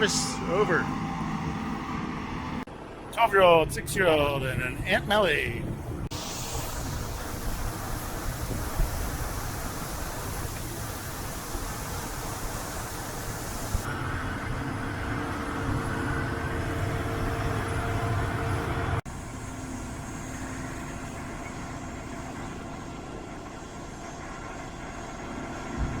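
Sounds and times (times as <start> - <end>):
farm machinery droning: 0.0 - 26.0.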